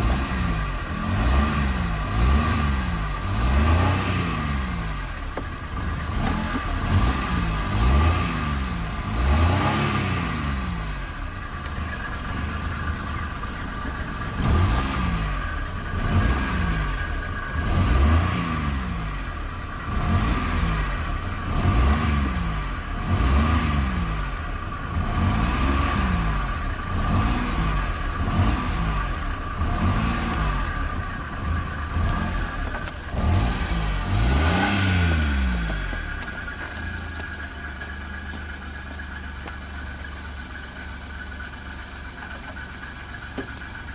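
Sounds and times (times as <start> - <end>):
small car engine revving: 0.0 - 43.9.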